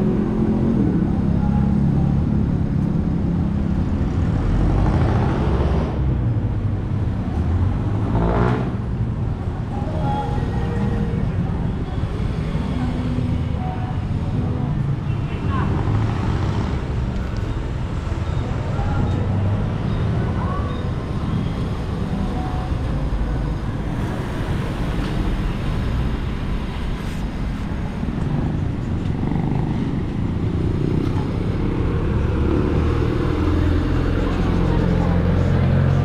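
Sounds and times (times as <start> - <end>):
vehicle engines passing: 0.0 - 36.0.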